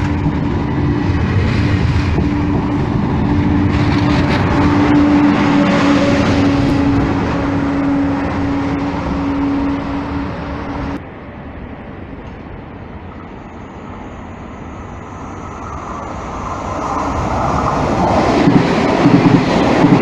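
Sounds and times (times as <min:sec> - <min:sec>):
high-speed train humming past: 0:00.0 - 0:20.0.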